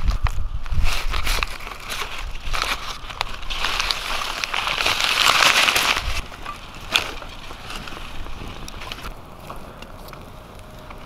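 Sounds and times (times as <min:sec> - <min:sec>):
kindling fire crackling: 0:00.0 - 0:11.0.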